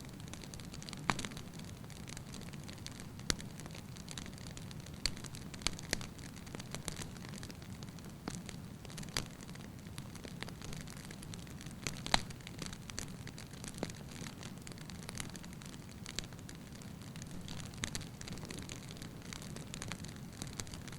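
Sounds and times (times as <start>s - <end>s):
fire low rumble: 0.0s - 20.9s
logs crackling and popping: 0.0s - 20.9s.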